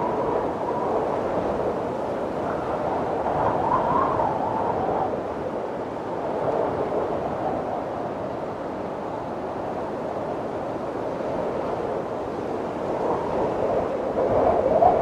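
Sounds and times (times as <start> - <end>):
moaning wind: 0.0 - 15.0.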